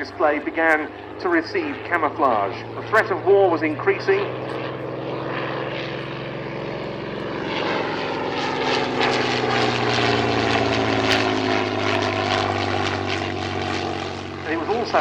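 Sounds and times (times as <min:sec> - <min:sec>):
propeller plane engine flyby: 0:00.0 - 0:15.0.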